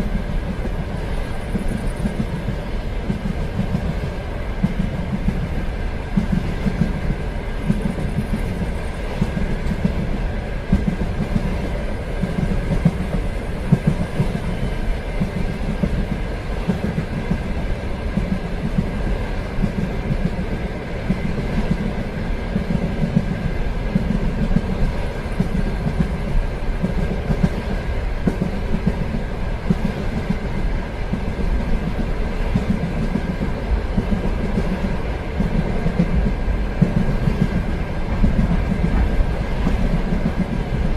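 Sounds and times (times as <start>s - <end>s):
train rumbling on rails: 0.0s - 40.9s
wheels clicking on track: 0.0s - 40.9s.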